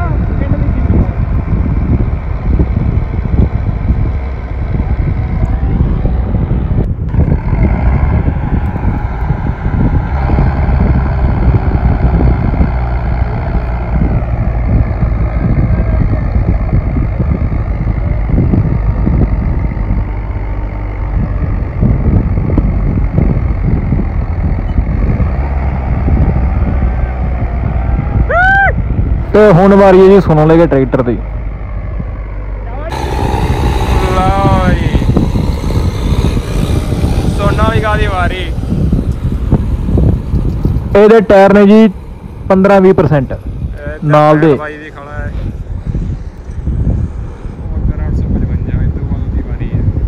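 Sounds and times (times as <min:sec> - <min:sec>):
tractor engines working hard: 0:00.0 - 0:50.0.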